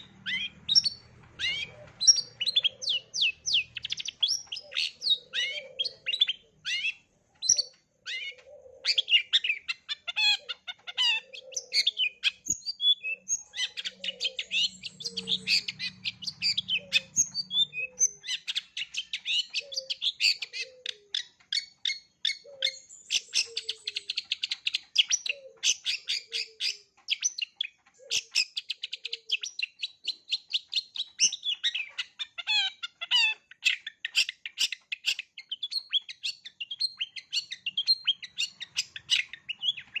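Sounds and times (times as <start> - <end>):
bird singing chirps and trills: 0.0 - 40.0.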